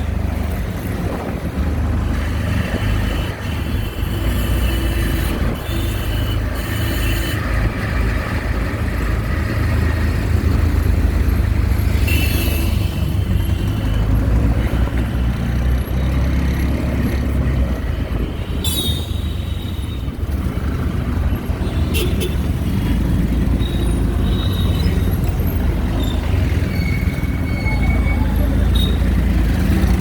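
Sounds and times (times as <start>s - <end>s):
rickshaw engine and road rumble: 0.0s - 30.0s
street traffic: 0.0s - 30.0s.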